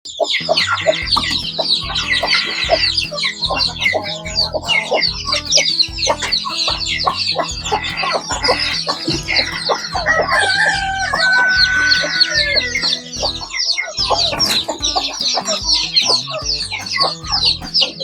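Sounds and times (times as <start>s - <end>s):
chickens clucking: 0.1s - 18.0s
background music with low beat: 0.2s - 18.0s.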